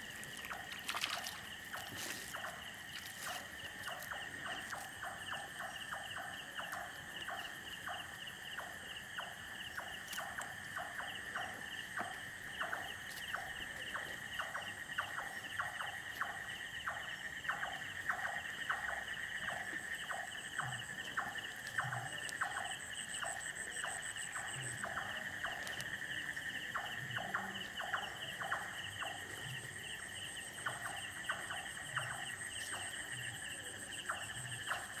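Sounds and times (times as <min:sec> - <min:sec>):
frogs calling with clicking notes: 0:00.0 - 0:35.0
insects trilling: 0:00.0 - 0:35.0.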